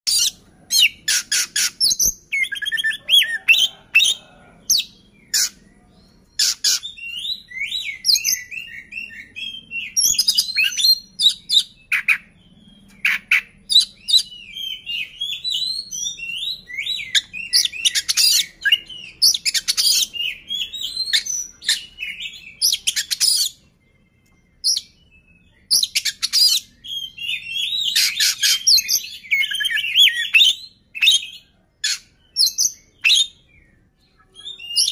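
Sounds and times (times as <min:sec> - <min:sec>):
bird singing varied song: 0:00.0 - 0:34.9.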